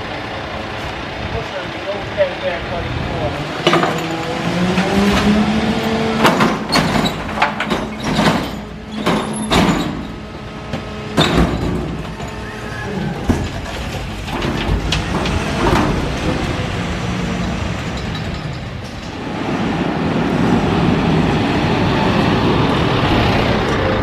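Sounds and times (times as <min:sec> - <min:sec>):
loud mechanical running noise: 0:00.0 - 0:24.0
truck engine running: 0:00.0 - 0:24.0
hydraulics: 0:00.3 - 0:24.0.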